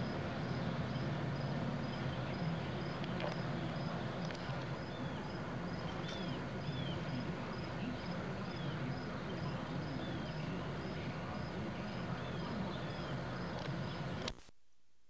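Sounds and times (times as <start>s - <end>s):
cricket chirping: 0.0s - 14.1s
bird calls: 0.5s - 14.2s.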